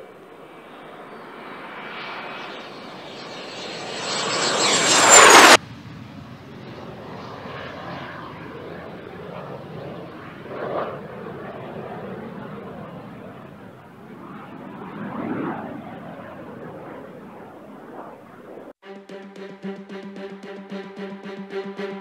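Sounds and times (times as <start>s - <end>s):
jet engine with high whine: 0.0s - 18.8s.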